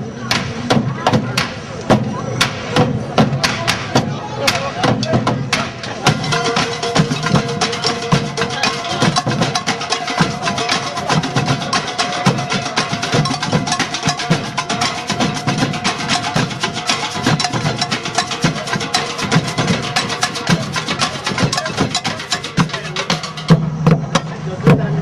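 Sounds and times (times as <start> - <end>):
low drum beat: 0.0 - 25.0
rapid percussion strikes: 0.0 - 25.0.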